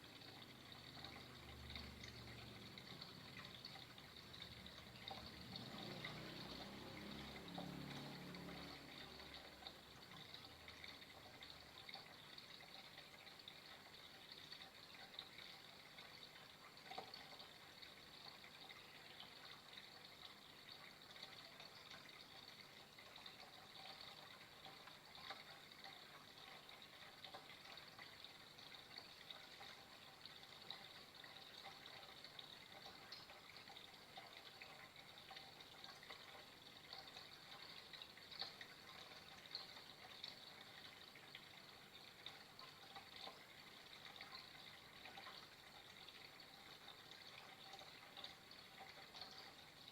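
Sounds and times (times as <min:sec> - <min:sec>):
faint trickling water: 0:00.0 - 0:49.9.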